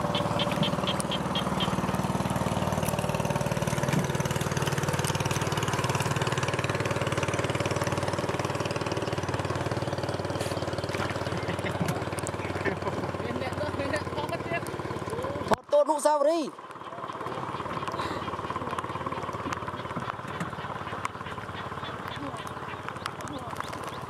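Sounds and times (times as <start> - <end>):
small boat engine idling: 0.0 - 24.0.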